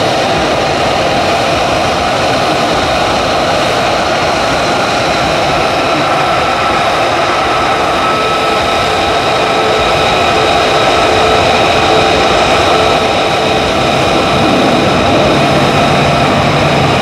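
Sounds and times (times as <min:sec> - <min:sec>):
jet engine idling with whine: 0:00.0 - 0:17.0.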